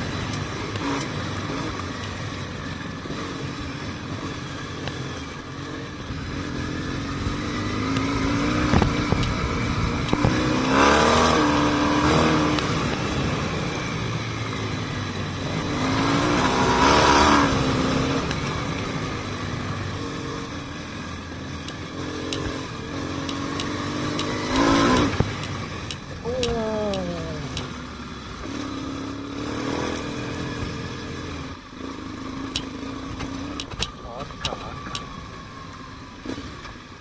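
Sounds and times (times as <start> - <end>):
motorcycle engine running: 0.0 - 37.0
wind and tyre noise: 0.0 - 37.0.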